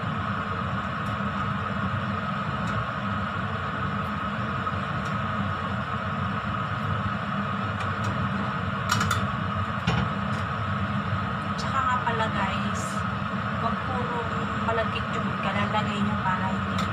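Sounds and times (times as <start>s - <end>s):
steady whirring hum: 0.0s - 16.9s.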